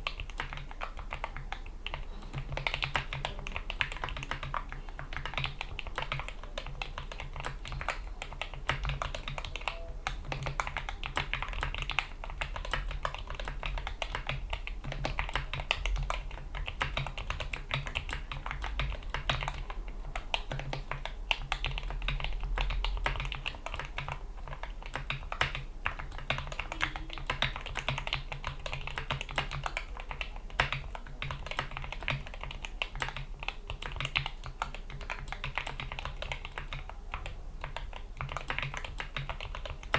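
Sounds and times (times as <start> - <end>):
faint low hum: 0.0 - 39.9
mechanical keyboard typing: 0.0 - 39.9.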